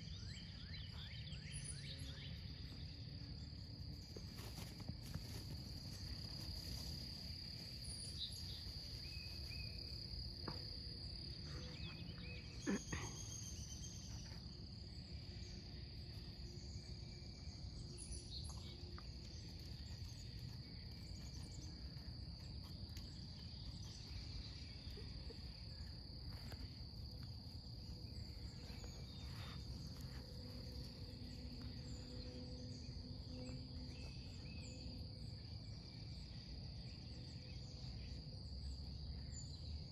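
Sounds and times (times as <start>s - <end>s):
faint chirps: 0.0s - 37.0s
insects droning: 0.0s - 39.9s.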